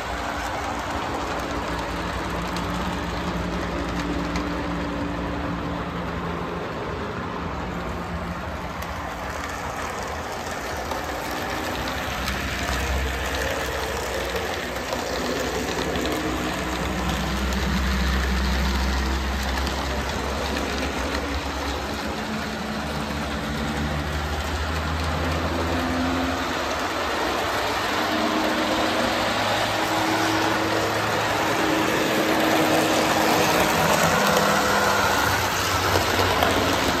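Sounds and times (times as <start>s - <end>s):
locomotive hum and rumble: 0.0s - 37.0s
model train running on track: 0.0s - 37.0s.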